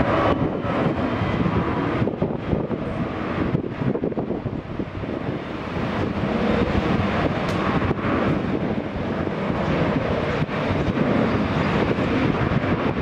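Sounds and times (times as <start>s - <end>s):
jet engines roaring: 0.0s - 13.0s
wind noise on microphone: 0.0s - 13.0s.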